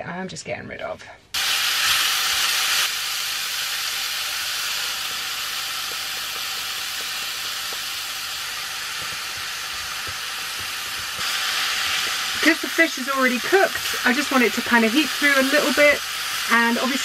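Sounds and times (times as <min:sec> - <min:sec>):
food sizzling in a frying pan: 0:01.4 - 0:17.0.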